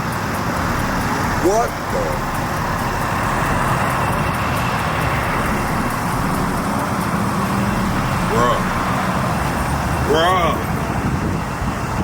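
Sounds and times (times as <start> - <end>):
car engine rumbling: 0.0 - 12.0
outdoor noise: 0.0 - 12.0.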